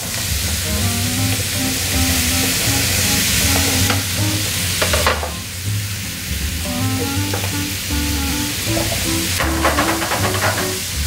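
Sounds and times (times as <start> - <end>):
potatoes sizzling in hot fat: 0.0 - 11.0
light background music: 0.4 - 11.0.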